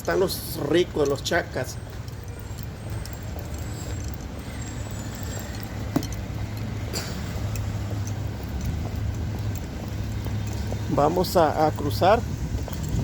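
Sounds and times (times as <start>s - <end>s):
road vehicle rumble: 0.0s - 13.0s.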